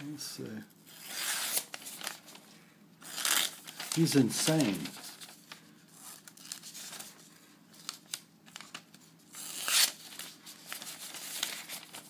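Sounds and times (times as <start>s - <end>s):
paper rustling: 1.1s - 12.0s.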